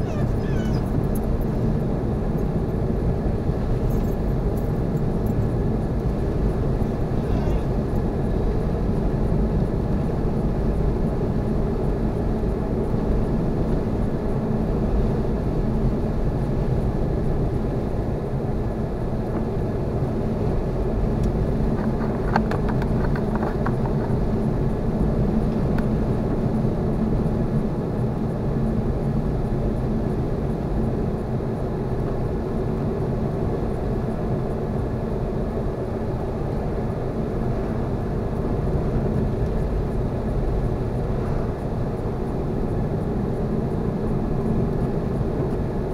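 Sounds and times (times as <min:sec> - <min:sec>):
in-cabin road and engine rumble: 0:00.0 - 0:45.9.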